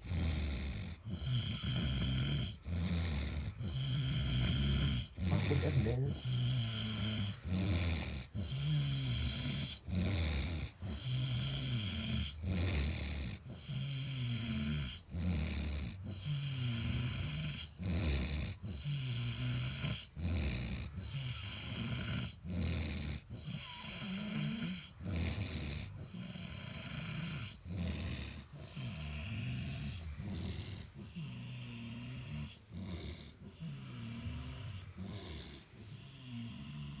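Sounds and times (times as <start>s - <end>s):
snoring: 0.0s - 37.0s.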